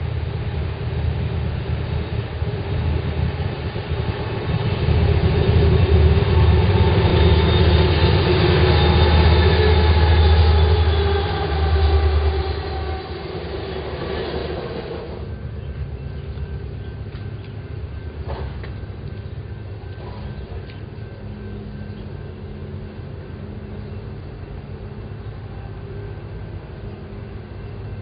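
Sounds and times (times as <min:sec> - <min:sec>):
freight train passing: 0:00.0 - 0:28.0.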